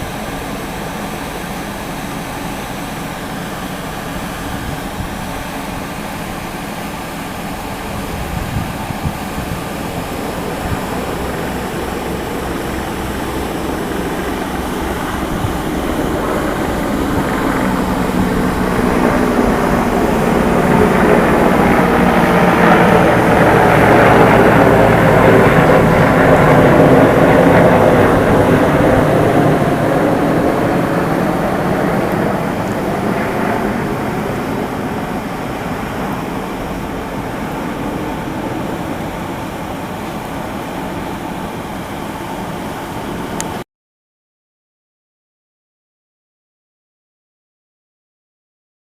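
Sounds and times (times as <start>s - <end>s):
helicopter flying past: 0.0s - 43.6s.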